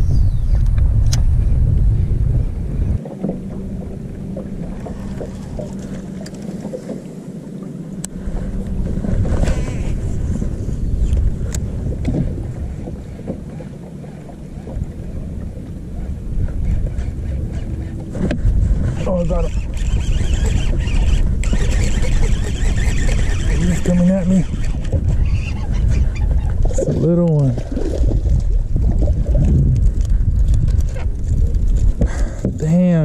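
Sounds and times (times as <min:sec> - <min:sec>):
wind rumbling on microphone: 0:00.0 - 0:33.0
small boat moving on water: 0:00.7 - 0:33.0.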